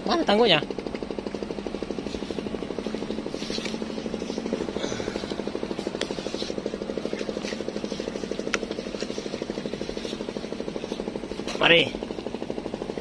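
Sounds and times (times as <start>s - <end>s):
small engine chugging: 0.0s - 13.0s.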